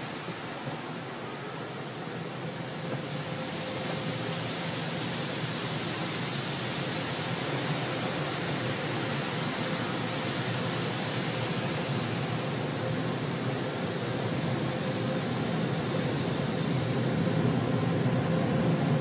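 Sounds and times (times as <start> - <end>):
car wash equipment rushing: 0.0 - 19.0.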